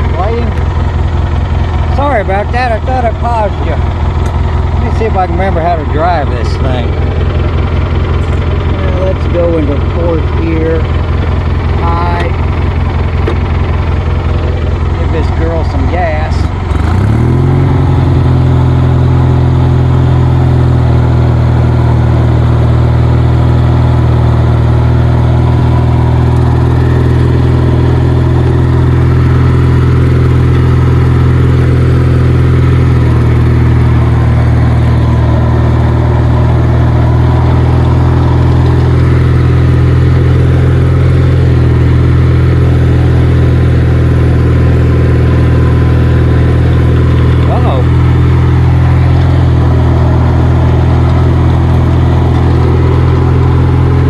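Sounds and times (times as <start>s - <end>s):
riding mower engine: 0.0s - 54.0s.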